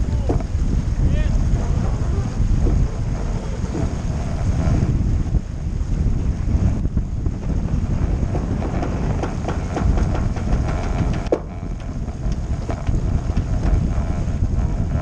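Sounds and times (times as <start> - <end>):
boat knocks and rattles: 0.0 - 15.0
water rushing along hull: 0.0 - 15.0
wind buffeting microphone: 0.0 - 15.0.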